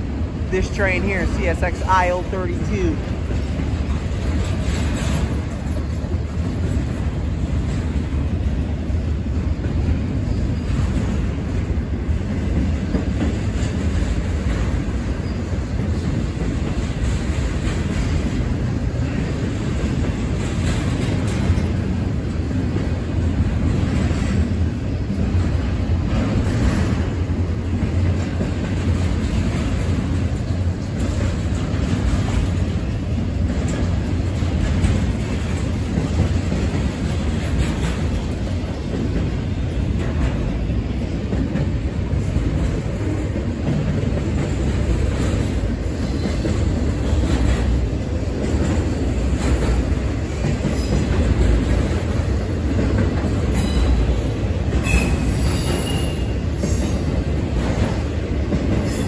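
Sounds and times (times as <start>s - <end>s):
freight train wheels rumbling: 0.0s - 59.0s
train wheel clacks: 0.0s - 59.0s.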